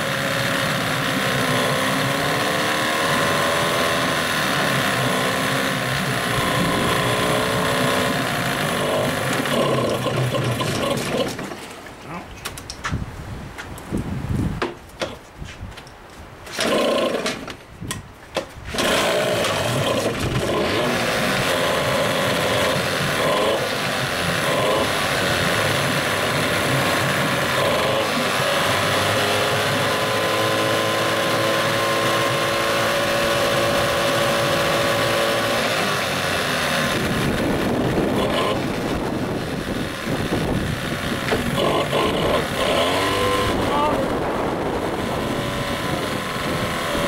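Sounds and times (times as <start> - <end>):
outboard motor running: 0.0 - 11.6, 16.5 - 17.5, 18.7 - 47.0
propeller churning water: 0.0 - 11.7, 18.7 - 47.0
outboard motor pull start: 0.0 - 11.8, 16.5 - 17.6, 18.4 - 47.0.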